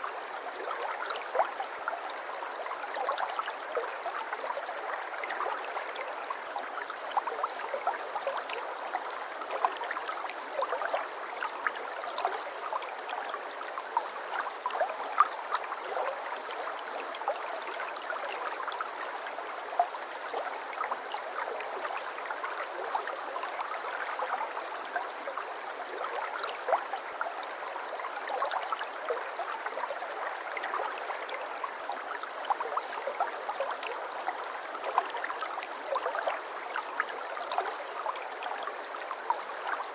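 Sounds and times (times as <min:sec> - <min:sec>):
brook gurgling over stones: 0:00.0 - 0:39.9.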